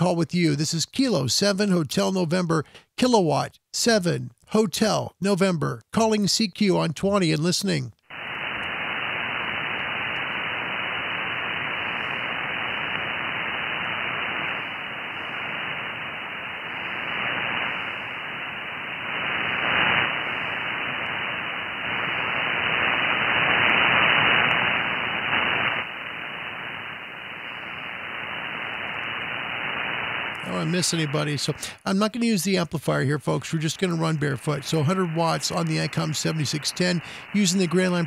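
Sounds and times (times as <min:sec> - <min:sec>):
radio receiver hiss: 0:00.0 - 0:38.0.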